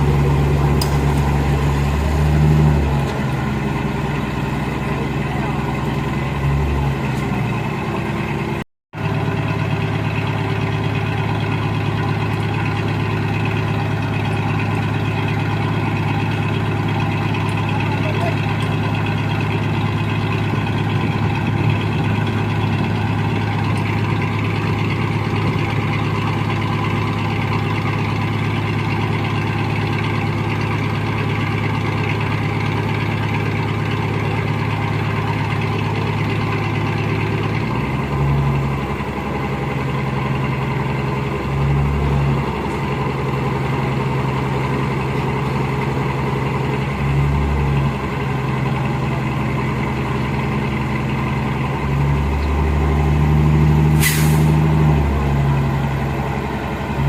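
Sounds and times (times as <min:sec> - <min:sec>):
heavy machine engine humming: 0:00.0 - 0:57.0.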